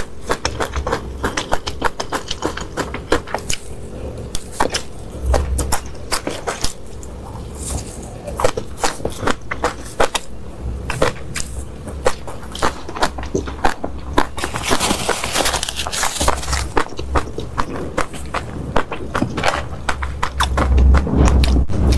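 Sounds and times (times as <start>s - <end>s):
chewing with crunches: 0.0s - 21.9s.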